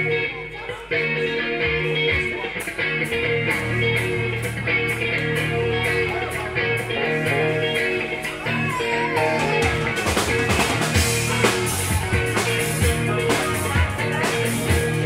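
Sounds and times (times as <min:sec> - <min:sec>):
electric guitar strumming: 0:00.0 - 0:15.0
bass notes: 0:01.5 - 0:15.0.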